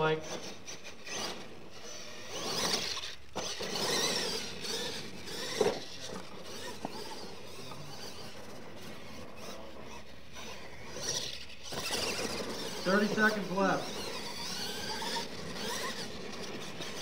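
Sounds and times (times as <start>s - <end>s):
rc truck motor whining: 0.0s - 17.0s
tyres on dirt: 0.3s - 17.0s.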